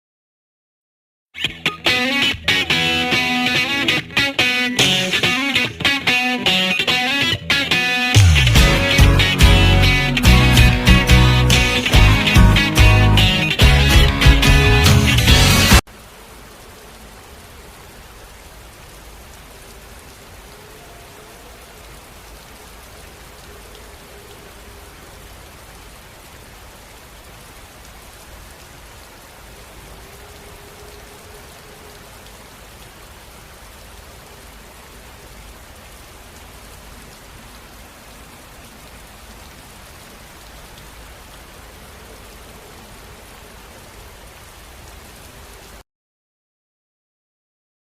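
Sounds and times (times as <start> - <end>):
rain falling: 1.4 - 45.8.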